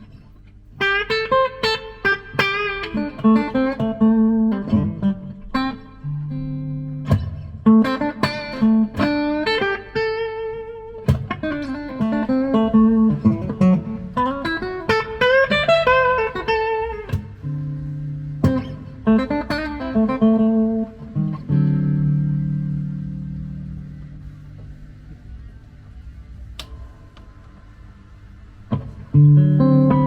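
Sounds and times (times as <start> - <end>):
electric guitar playing: 0.0 - 27.6, 28.3 - 30.0.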